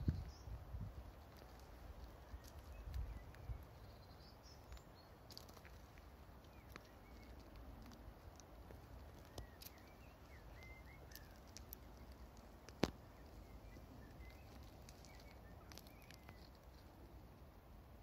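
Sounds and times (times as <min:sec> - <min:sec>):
distant birds chirping: 0:02.0 - 0:18.0.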